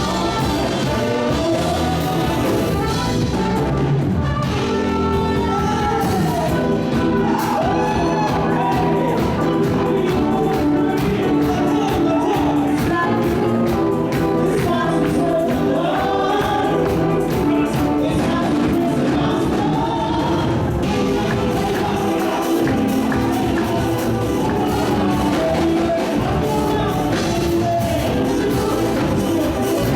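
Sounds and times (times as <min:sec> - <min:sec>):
voices singing a hymn: 0:00.0 - 0:03.2, 0:04.9 - 0:29.9
drums steady beat: 0:00.0 - 0:29.9
gospel band music: 0:00.0 - 0:29.9.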